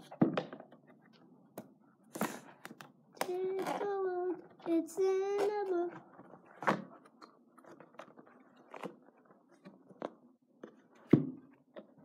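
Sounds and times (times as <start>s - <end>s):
books being handled: 2.1s - 12.0s.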